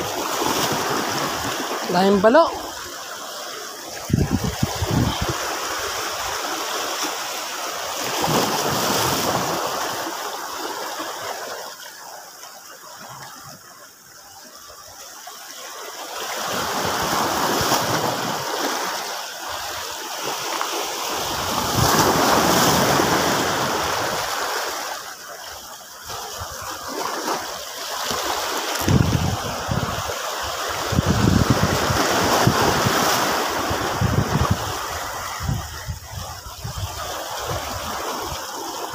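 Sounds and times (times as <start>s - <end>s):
waves splashing over rocks: 0.0s - 38.9s.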